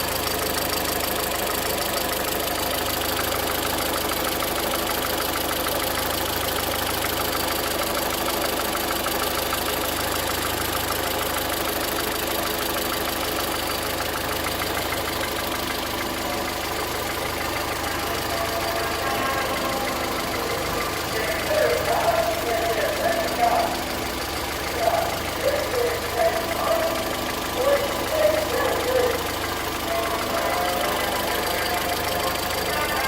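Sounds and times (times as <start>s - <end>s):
car engine idling: 0.0s - 33.0s
fast even engine ticking: 0.0s - 33.0s.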